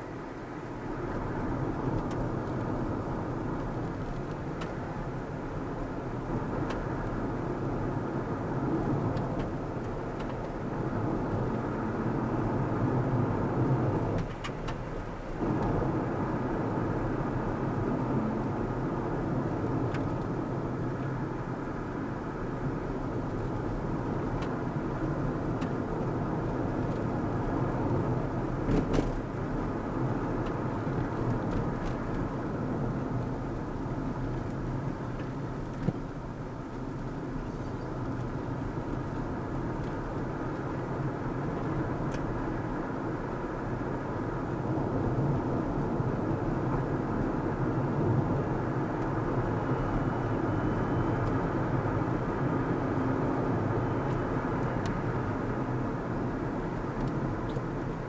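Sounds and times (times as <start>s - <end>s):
car driving road noise: 0.0s - 58.0s.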